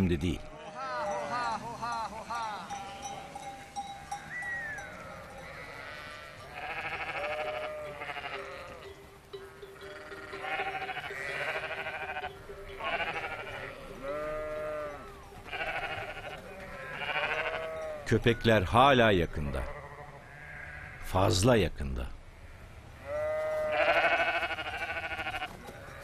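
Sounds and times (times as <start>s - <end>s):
sheep bleating: 0.4s - 3.5s, 4.6s - 18.1s, 19.4s - 21.2s, 23.0s - 26.0s.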